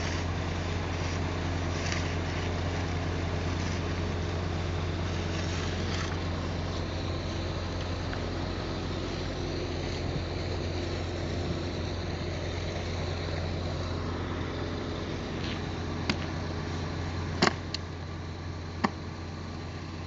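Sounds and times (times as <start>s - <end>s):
truck engine humming: 0.0s - 20.0s.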